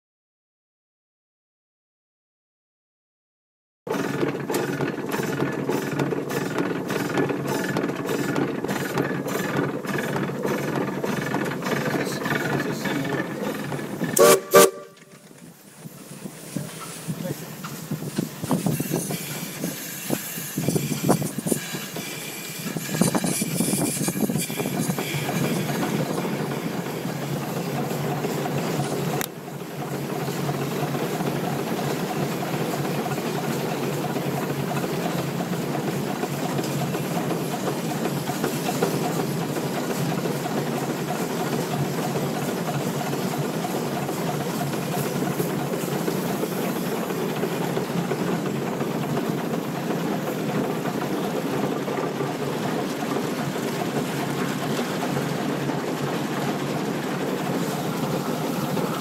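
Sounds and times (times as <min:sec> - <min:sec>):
steam engine running: 0:03.9 - 0:59.0.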